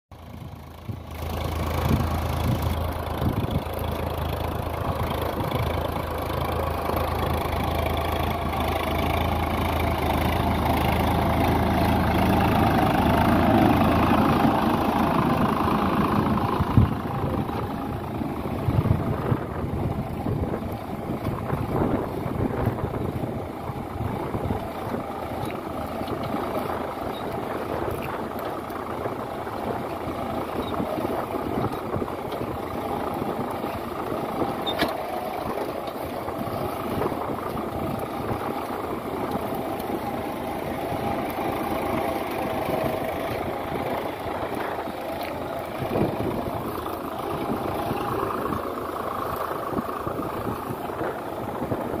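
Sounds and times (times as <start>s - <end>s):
tractor diesel engine under load: 0.1s - 52.0s.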